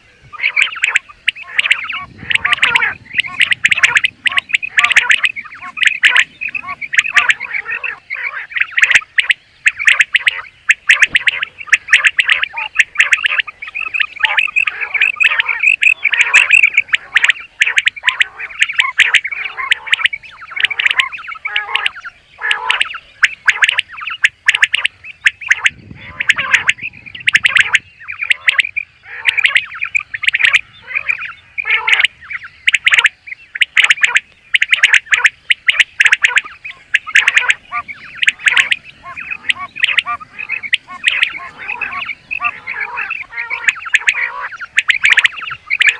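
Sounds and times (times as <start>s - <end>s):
quail calling: 0.0s - 45.9s.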